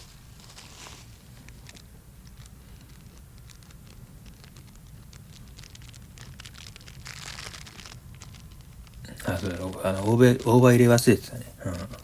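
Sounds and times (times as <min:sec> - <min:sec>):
low background rumble: 0:00.0 - 0:12.0
rustling of food handling: 0:00.0 - 0:12.0.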